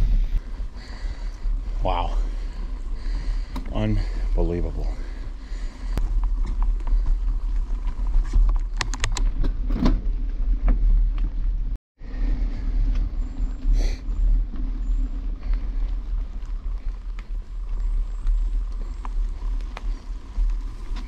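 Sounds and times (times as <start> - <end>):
bike rattling over bumps: 0.0 - 21.0
bike tyres rumbling on dirt: 0.0 - 21.0.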